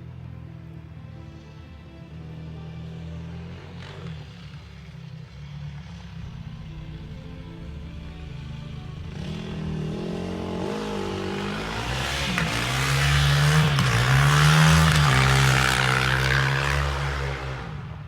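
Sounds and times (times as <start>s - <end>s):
vehicle engine approaching: 1.4s - 18.0s.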